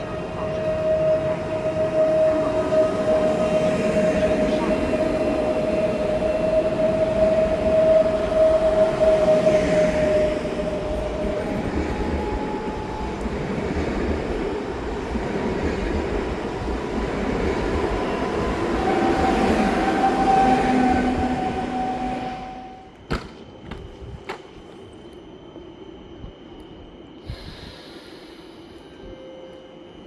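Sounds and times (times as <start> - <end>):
train rumbling with whining tones: 0.0 - 30.0.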